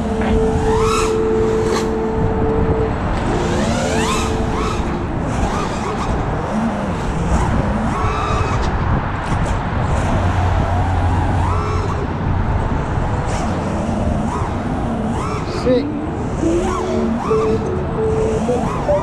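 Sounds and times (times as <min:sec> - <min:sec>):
wind rushing: 0:00.0 - 0:17.9
drone motors whining: 0:00.0 - 0:19.0.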